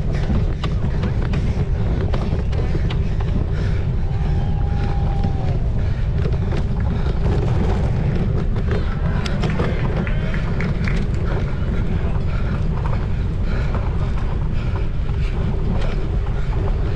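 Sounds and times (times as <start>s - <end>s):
bike clicks and rattles: 0.0s - 16.9s
wind buffeting microphone: 0.0s - 16.9s.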